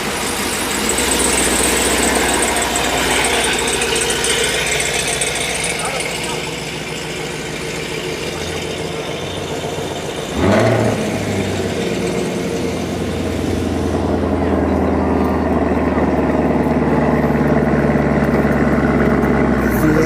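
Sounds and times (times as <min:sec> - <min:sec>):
another engine idling: 0:00.0 - 0:20.0
car engine starting and idling: 0:00.0 - 0:20.0.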